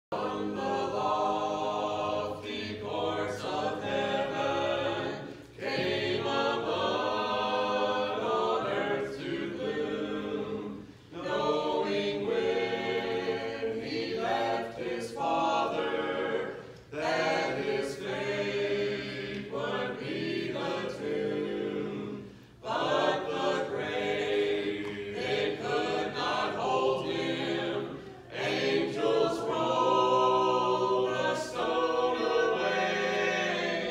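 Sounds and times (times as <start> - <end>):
vocal group singing a cappella: 0.0 - 33.9.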